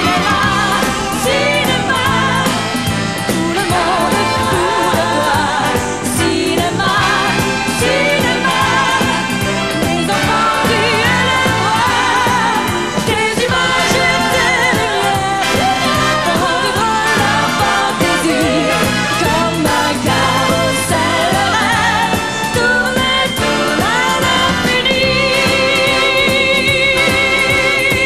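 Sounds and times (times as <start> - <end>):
band playing pop music: 0.0 - 28.0
female backing singers: 0.0 - 28.0
woman singing with vibrato: 0.0 - 28.0.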